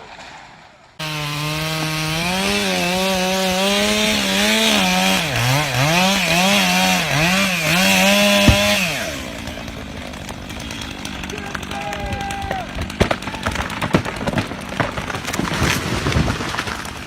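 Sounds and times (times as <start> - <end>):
chainsaw running at high revs: 1.0 - 16.0.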